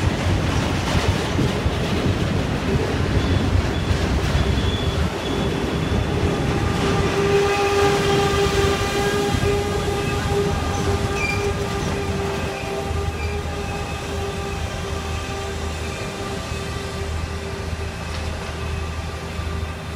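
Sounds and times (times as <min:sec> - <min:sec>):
train wheels rumbling: 0:00.0 - 0:19.9
steady squealing tone: 0:02.9 - 0:19.8.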